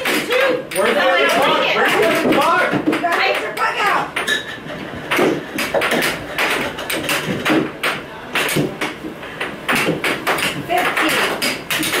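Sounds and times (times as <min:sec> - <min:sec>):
air hockey pucks and mallets clacking: 0:00.0 - 0:12.0.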